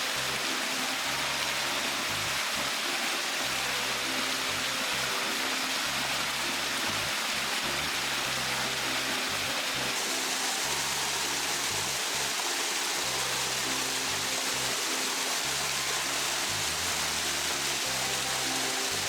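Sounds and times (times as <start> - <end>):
music with held low notes: 0.0 - 19.0
waterfall rushing: 0.0 - 19.0.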